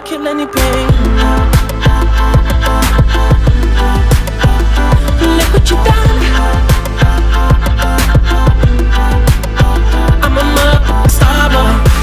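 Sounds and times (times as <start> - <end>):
hip-hop beat: 0.0 - 12.0.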